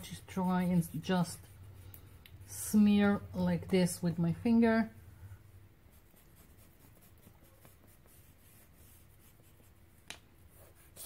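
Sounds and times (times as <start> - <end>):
pencil scratching on paper: 0.0 - 4.8, 5.8 - 11.0.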